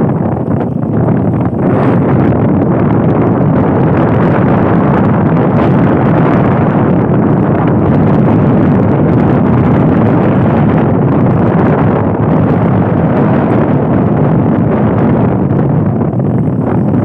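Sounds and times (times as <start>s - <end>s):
boat moving over water: 0.0s - 17.0s
wind buffeting microphone: 0.0s - 17.0s.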